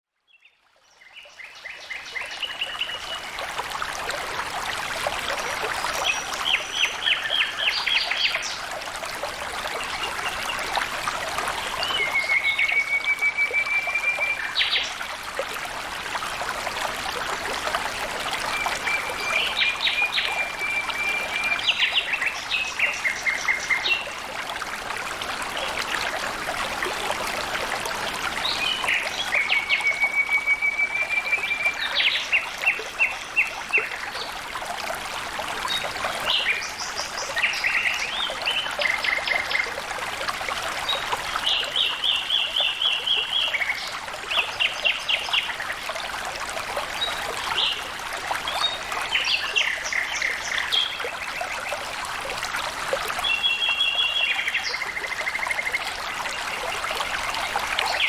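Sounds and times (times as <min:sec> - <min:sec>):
stream water flowing: 0:00.6 - 0:58.0.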